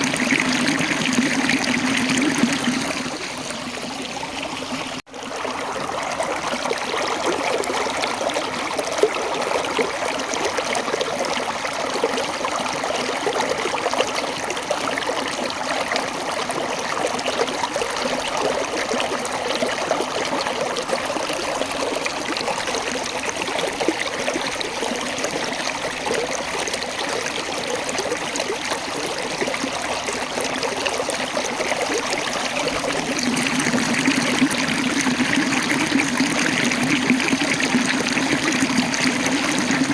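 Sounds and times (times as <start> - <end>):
water burbling over rocks: 0.0 - 39.9.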